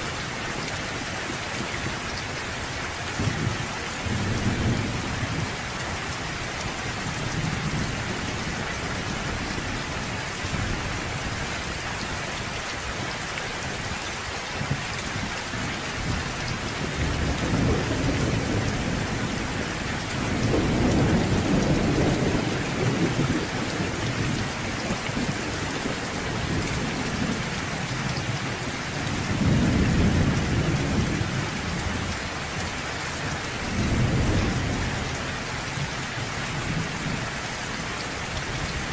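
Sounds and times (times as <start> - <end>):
steady rain: 0.0 - 38.9
low thunder rumbling: 0.1 - 13.8, 14.6 - 32.7, 33.3 - 37.4.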